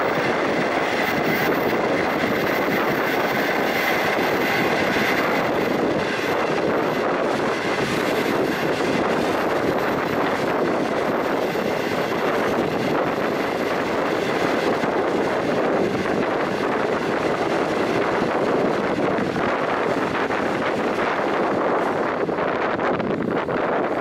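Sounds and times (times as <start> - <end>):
rushing air: 0.0 - 24.0
train wheels on rails in tunnel: 0.0 - 24.0.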